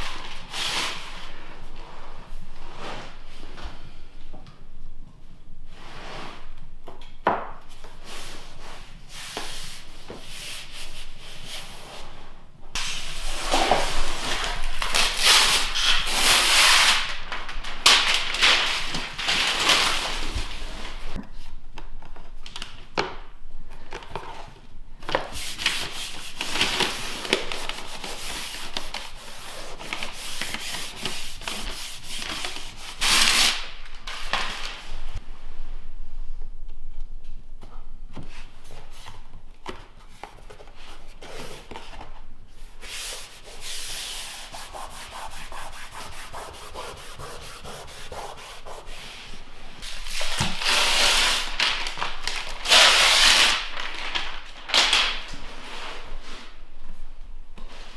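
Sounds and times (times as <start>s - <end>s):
rubbing and scraping on floor: 0.0s - 4.1s, 5.6s - 6.8s, 7.7s - 21.6s, 24.0s - 35.2s, 38.1s - 57.9s.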